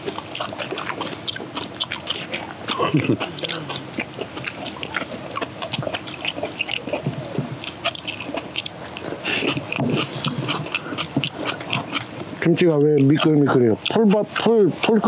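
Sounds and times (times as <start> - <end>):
people chewing and crunching: 0.0 - 15.0.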